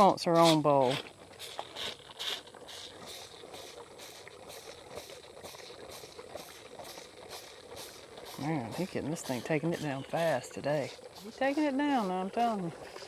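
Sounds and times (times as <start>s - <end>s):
calf slurping and gulping milk: 0.0s - 13.0s.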